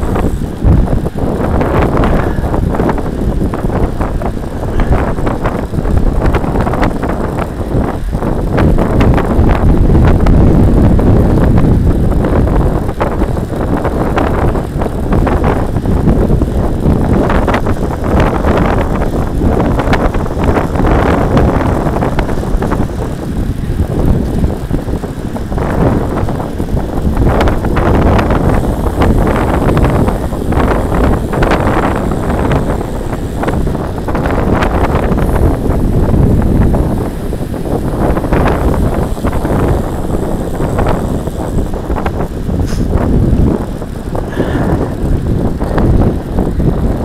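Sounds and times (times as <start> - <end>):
bike clicks and rattles: 0.0 - 47.0
tyre and road rumble: 0.0 - 47.0
wind buffeting microphone: 0.0 - 47.0.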